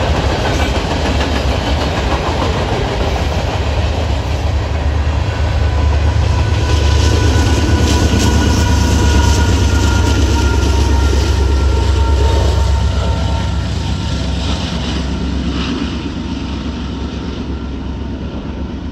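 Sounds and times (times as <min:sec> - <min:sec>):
freight train rumbling: 0:00.0 - 0:18.9.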